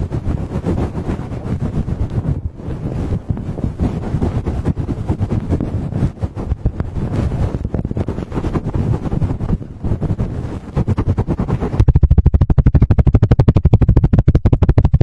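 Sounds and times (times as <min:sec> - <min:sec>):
microphones buffeted and rubbed: 0:00.0 - 0:15.0.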